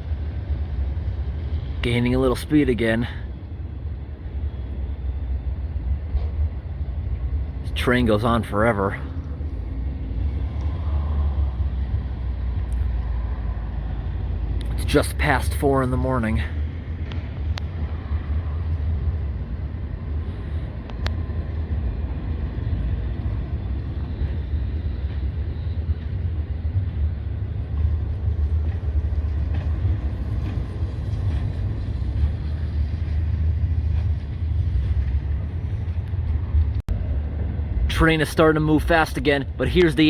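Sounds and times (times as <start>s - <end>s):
freight train cars rumbling: 0.0s - 40.0s.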